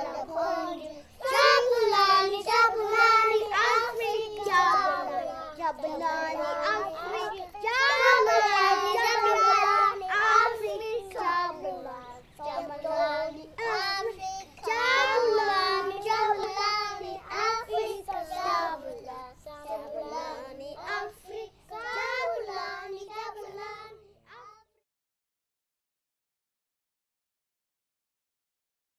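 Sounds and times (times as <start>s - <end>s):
young child singing: 0.0s - 24.8s.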